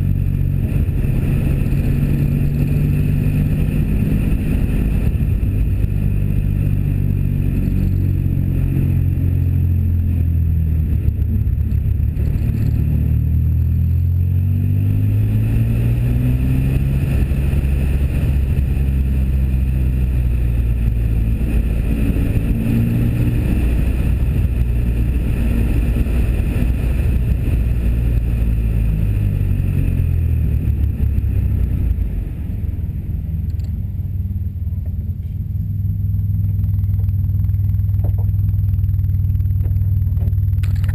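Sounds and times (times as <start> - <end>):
wind noise on microphone: 0.0 - 35.3
car engine and exhaust: 0.0 - 40.9.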